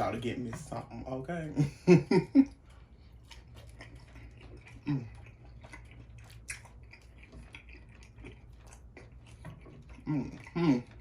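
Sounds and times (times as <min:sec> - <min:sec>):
chewing with wet smacking: 0:00.0 - 0:11.0.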